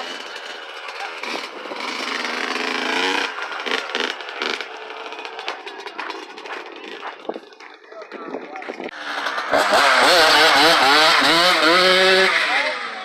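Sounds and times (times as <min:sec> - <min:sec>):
dirt bike engine revving: 0:00.0 - 0:07.9, 0:08.7 - 0:13.0.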